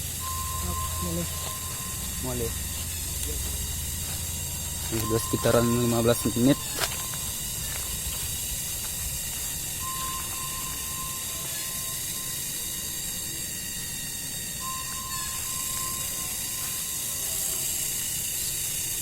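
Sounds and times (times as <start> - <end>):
high-pitched outdoor chirring: 0.0 - 19.0
thin whistle-like tone: 0.0 - 19.0.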